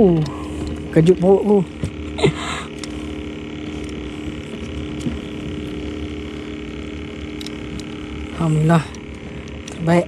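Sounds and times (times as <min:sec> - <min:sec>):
boat motor running: 0:00.0 - 0:10.0.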